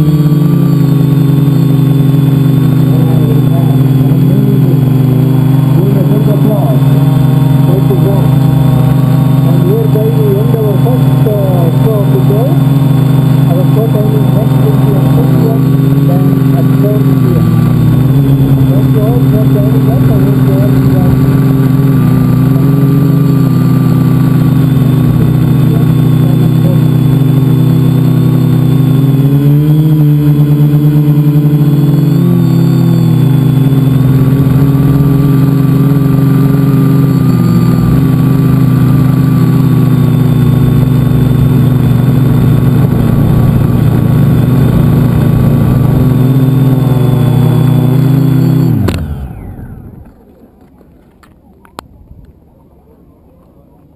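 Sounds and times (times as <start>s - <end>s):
drone motors whining: 0.0s - 52.5s.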